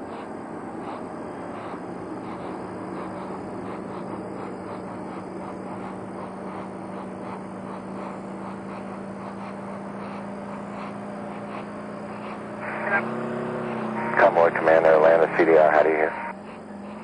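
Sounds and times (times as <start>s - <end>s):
low hum: 0.0s - 17.0s
rapid chirping: 0.0s - 17.0s.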